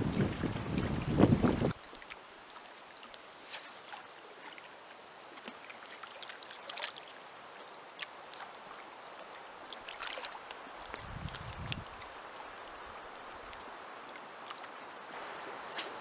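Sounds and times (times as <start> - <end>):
small waves lapping at shore: 1.6 - 16.0.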